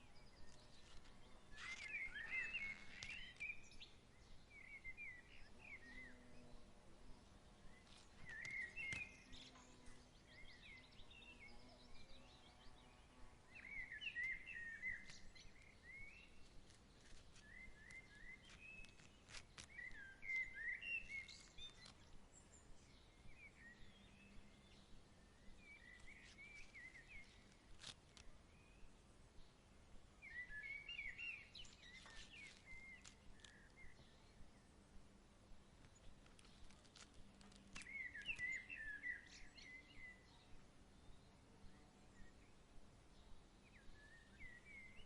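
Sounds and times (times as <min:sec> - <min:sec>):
faint steady hiss: 0:00.0 - 0:45.0
small birds chirping: 0:00.0 - 0:45.0.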